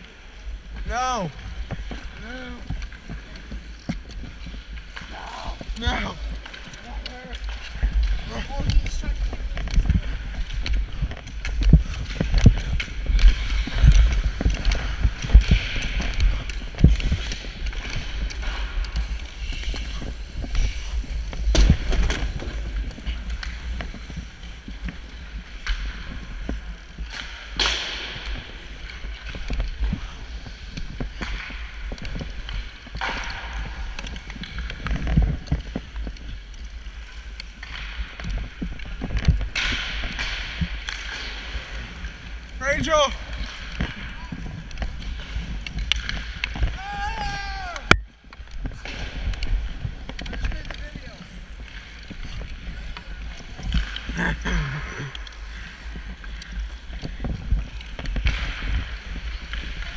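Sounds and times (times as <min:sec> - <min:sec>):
sled gliding on ice: 0:00.0 - 0:59.9
sled and stick knocks: 0:00.7 - 0:54.2.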